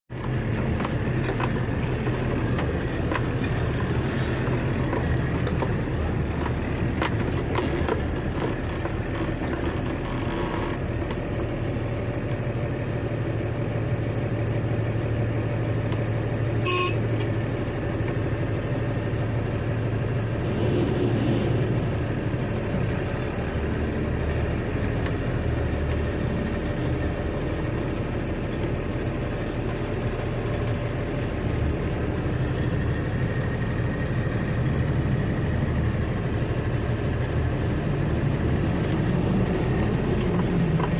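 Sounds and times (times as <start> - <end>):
truck engine humming: 0.1 - 40.9.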